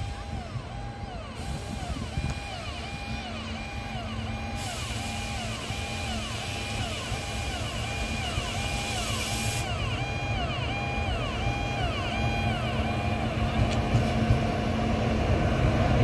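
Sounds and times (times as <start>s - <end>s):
train rumbling along track: 0.0s - 16.0s.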